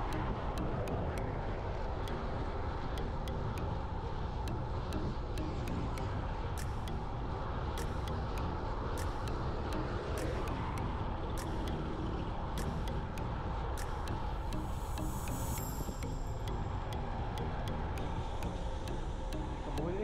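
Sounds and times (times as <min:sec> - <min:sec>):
road noise with deep rumble: 0:00.0 - 0:20.0
sharp ticks: 0:00.0 - 0:20.0.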